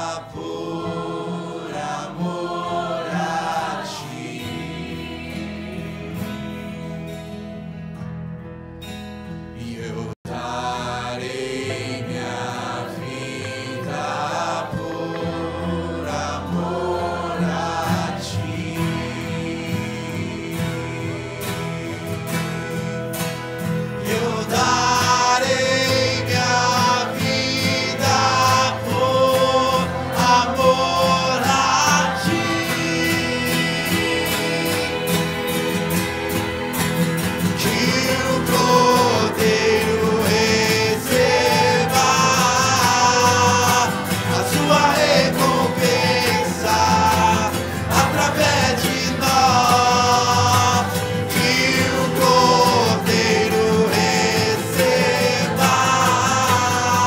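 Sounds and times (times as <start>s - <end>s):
man singing lead vocal: 0.0s - 7.1s, 9.6s - 57.0s
backing voices singing: 0.0s - 7.6s, 9.6s - 57.0s
acoustic guitar strumming: 0.0s - 57.0s.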